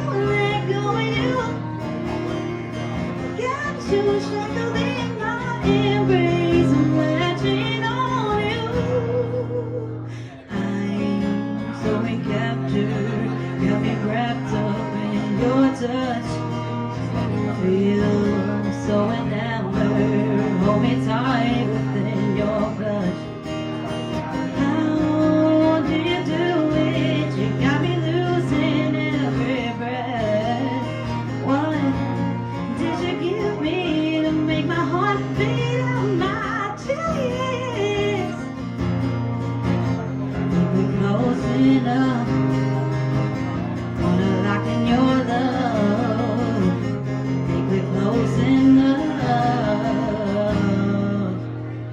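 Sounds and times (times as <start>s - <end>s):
guitar: 0.0s - 51.9s.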